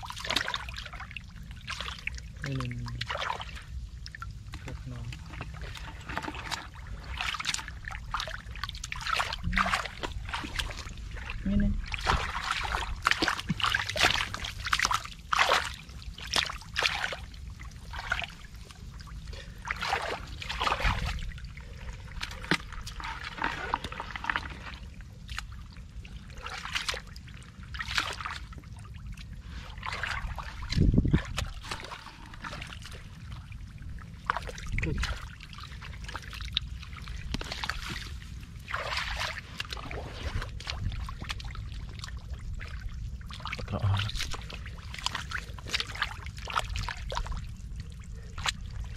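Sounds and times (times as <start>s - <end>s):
hands splashing in muddy water: 0.0s - 48.9s.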